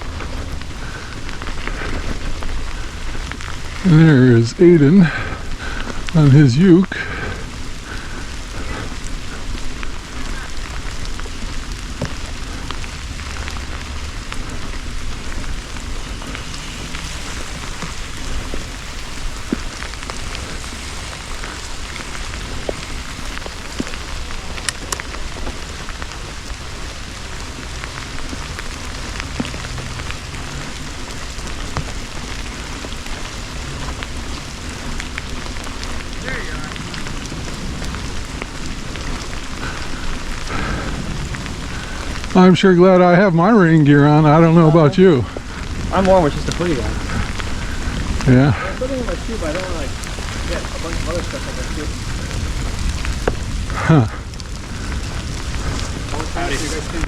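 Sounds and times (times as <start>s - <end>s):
drops ticking: 0.0s - 57.0s
low rumble: 0.0s - 57.0s
rain hiss: 0.0s - 57.0s.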